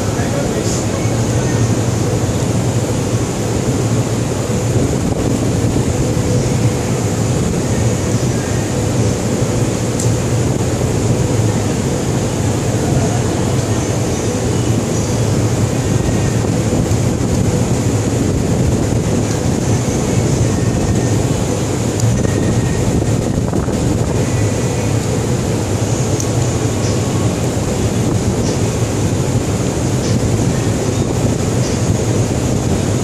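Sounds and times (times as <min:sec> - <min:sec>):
loud low rumble with hiss: 0:00.0 - 0:33.0.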